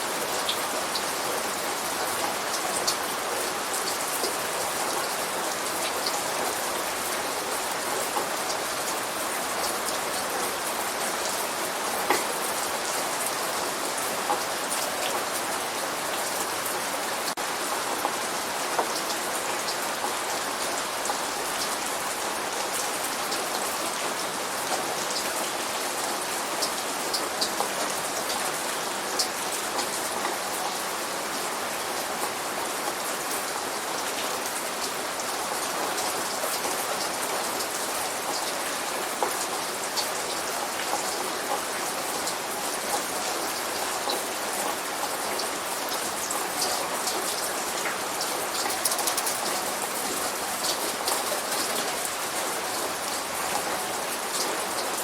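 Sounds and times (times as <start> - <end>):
light rain patter: 0.0 - 55.0.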